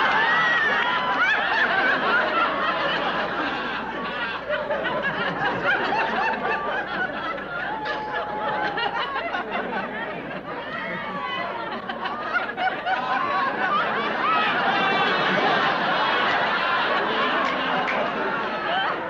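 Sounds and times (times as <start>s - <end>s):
studio audience laughing: 0.0s - 19.0s.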